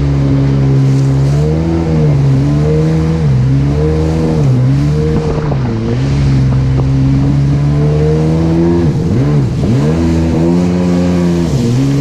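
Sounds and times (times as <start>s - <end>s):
jet ski engine running: 0.0s - 12.0s.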